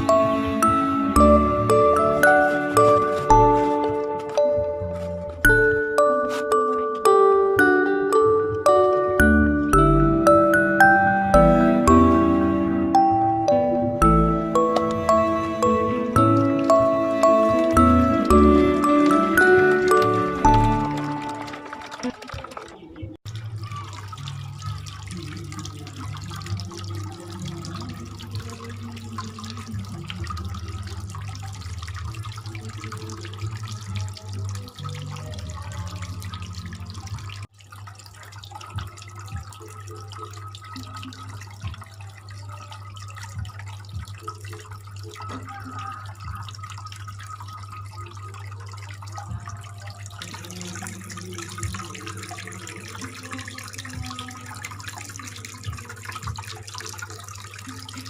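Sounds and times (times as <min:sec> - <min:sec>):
water trickling from fountain: 0:00.0 - 0:58.0.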